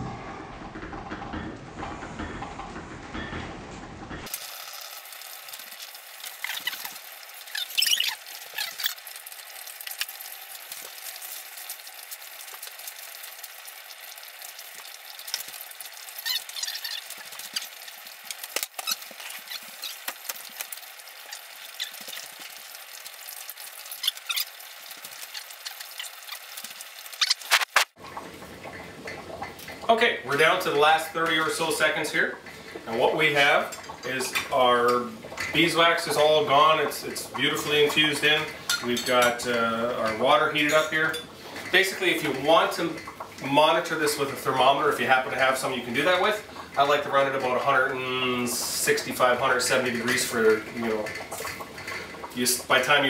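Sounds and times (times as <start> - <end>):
pots boiling hiss: 0.0 - 53.0.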